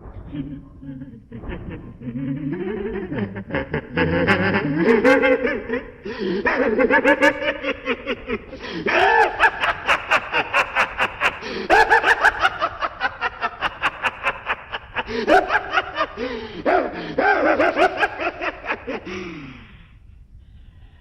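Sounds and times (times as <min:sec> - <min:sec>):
man laughing maniacally: 0:00.3 - 0:19.5.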